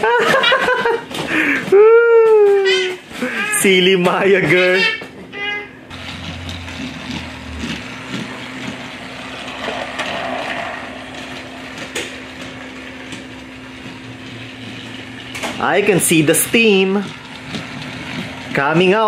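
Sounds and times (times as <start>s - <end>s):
toy train motor hum: 0.0s - 19.0s
wheels rattling on plastic track: 0.0s - 19.0s.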